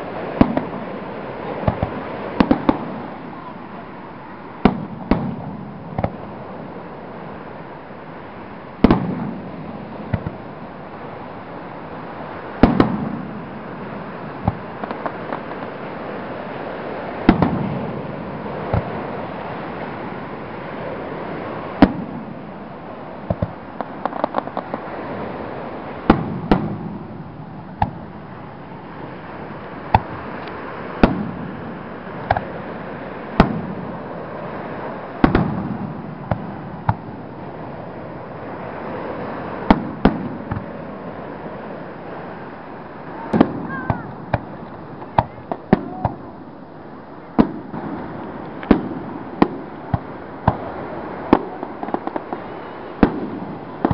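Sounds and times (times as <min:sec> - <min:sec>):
fireworks bursting with sharp bangs: 0:00.0 - 0:53.9
steady background hiss: 0:00.0 - 0:53.9.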